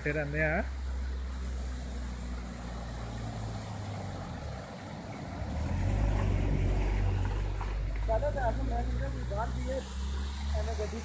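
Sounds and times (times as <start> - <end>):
car engine driving by: 0.0 - 11.0.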